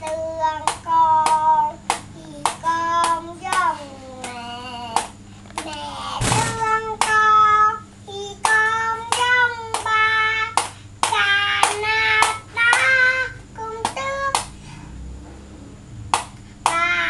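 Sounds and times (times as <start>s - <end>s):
young child singing: 0.0s - 14.6s, 16.6s - 17.0s.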